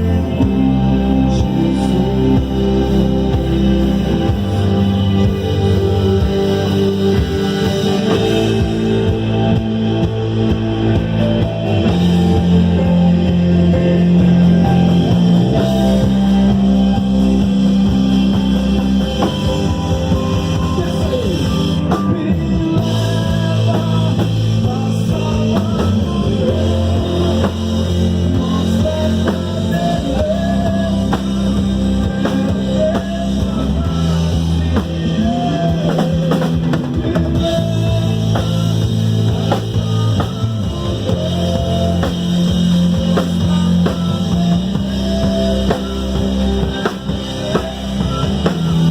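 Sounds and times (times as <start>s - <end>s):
bass guitar: 0.0s - 48.9s
drum kit: 0.0s - 48.9s
electric guitars: 0.0s - 48.9s
keyboard: 0.0s - 48.9s.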